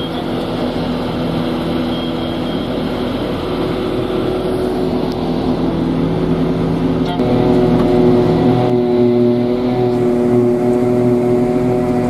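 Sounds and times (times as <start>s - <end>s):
diesel engines running under load: 0.0s - 12.0s.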